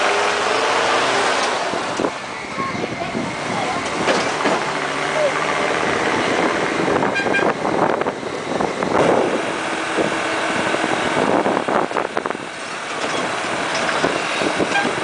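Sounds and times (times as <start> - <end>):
engine drone: 0.0 - 15.0
road and tyre noise: 0.0 - 15.0.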